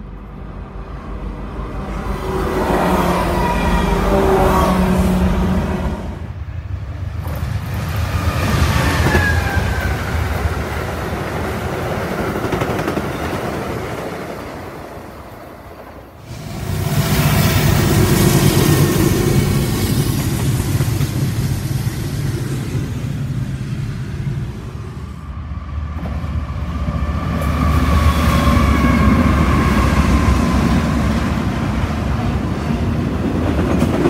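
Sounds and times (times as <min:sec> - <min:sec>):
diesel locomotive engine drone: 0:00.0 - 0:34.0
freight train rumbling on rails: 0:00.0 - 0:34.0.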